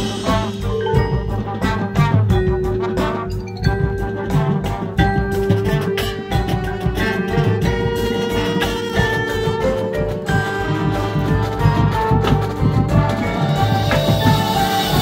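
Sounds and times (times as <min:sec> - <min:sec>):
brass horns holding chords: 0:00.0 - 0:03.5, 0:04.1 - 0:15.0
drums: 0:00.0 - 0:15.0
mallet percussion: 0:00.0 - 0:15.0.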